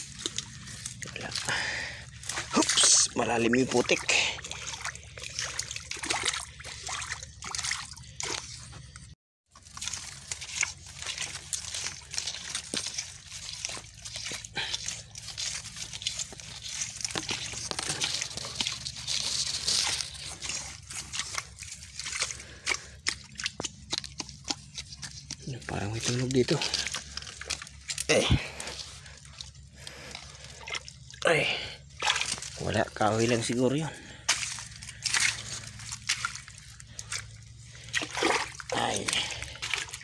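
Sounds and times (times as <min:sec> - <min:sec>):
wading through muddy water: 0:00.0 - 0:40.0.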